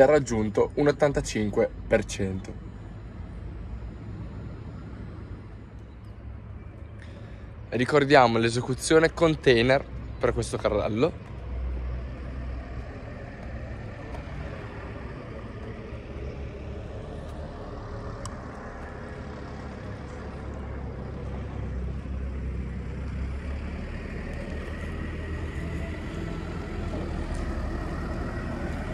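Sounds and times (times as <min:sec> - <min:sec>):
low outdoor rumble: 0:00.0 - 0:28.9.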